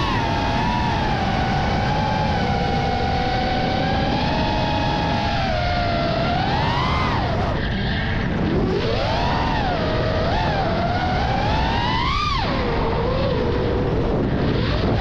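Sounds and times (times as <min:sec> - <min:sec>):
drone motors and propellers whining: 0:00.0 - 0:15.0.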